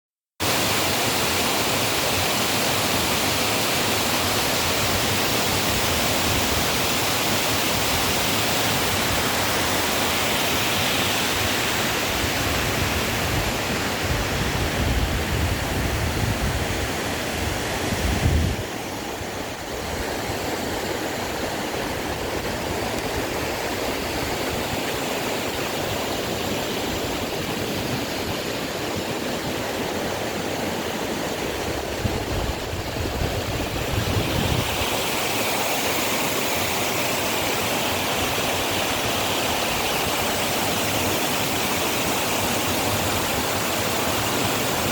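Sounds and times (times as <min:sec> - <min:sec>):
waterfall rushing water: 0:00.4 - 0:44.9.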